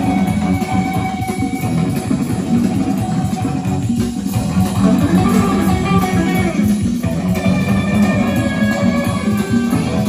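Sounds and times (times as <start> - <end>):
guitar and bass music on loudspeakers: 0.0 - 10.0.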